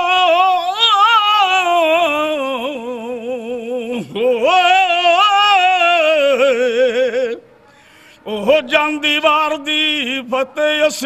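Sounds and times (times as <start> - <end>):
man singing with vibrato: 0.0 - 11.0.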